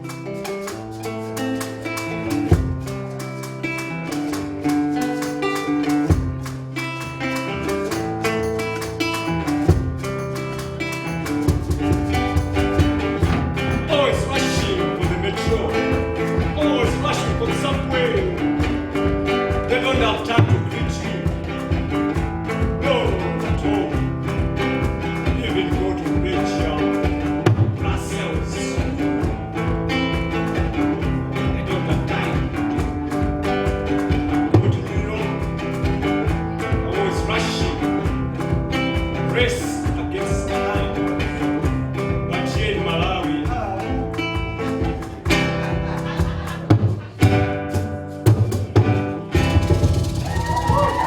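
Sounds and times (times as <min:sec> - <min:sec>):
acoustic guitar playing: 0:00.0 - 0:51.0.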